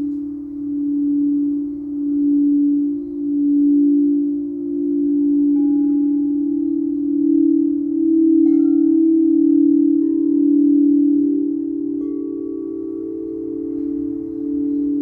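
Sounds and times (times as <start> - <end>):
singing bowls humming: 0.0 - 15.0.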